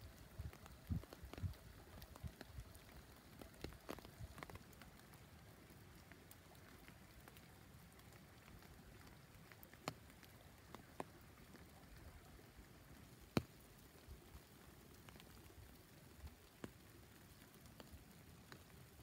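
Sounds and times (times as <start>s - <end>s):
soft ticks on dry leaves: 0.0s - 19.0s.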